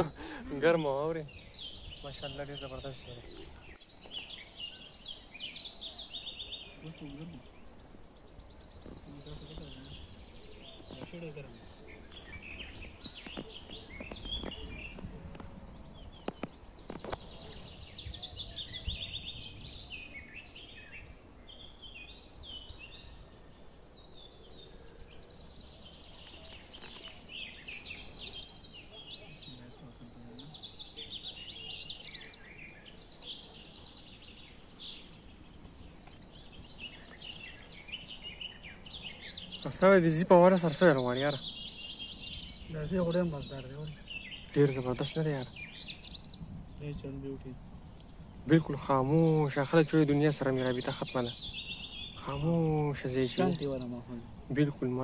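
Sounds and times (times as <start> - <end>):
small birds singing and chirping: 0.0 - 55.0.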